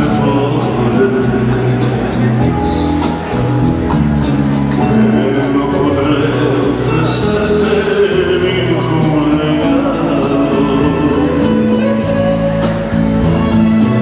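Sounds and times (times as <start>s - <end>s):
person singing: 0.0s - 14.0s
rumba dance music: 0.0s - 14.0s
steady percussion beat: 0.0s - 14.0s.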